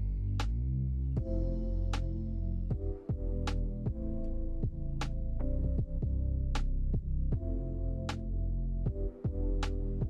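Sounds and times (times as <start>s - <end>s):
deep bass: 0.0s - 10.0s.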